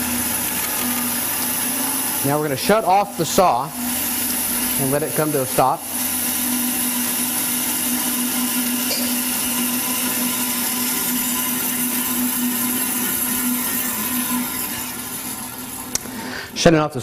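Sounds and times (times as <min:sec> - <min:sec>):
bandsaw running: 0:00.0 - 0:17.0.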